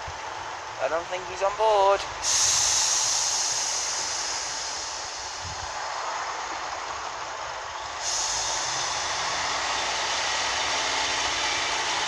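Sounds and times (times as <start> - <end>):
diesel railcar rushing rail noise: 0.0 - 12.0.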